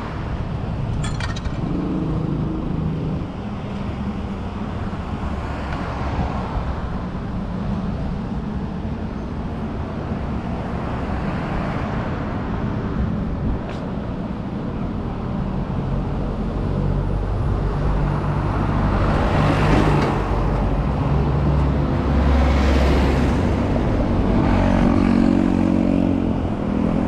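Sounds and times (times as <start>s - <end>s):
cars passing: 0.0s - 27.0s.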